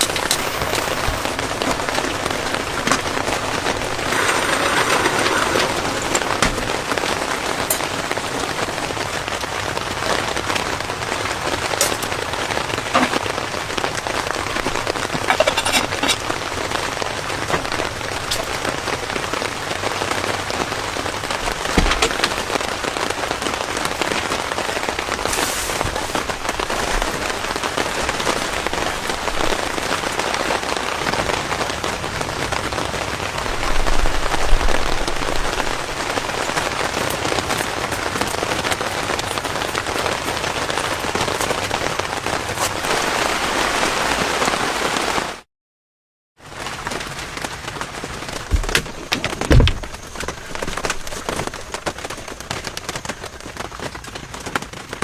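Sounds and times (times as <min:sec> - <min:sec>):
heavy rain patter: 0:00.0 - 0:45.4, 0:46.4 - 0:55.0.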